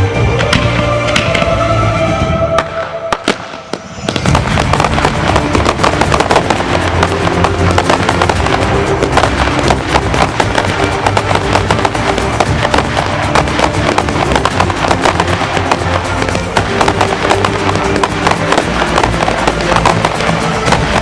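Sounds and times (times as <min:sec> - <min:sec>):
music: 0:00.0 - 0:21.0
fireworks bangs and crackle: 0:02.5 - 0:21.0.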